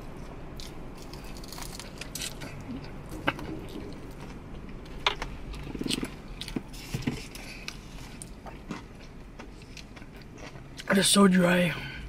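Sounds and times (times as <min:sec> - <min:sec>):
chewing and biting food: 0:00.0 - 0:10.9.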